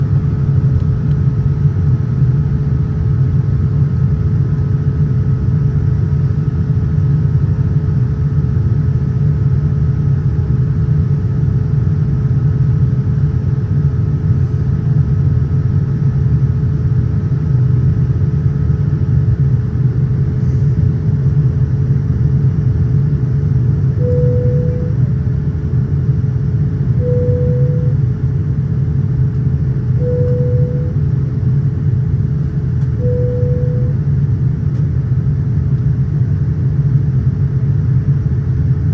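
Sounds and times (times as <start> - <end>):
airliner cabin roar: 0.0 - 38.9
faint constant hum tone: 0.0 - 38.9.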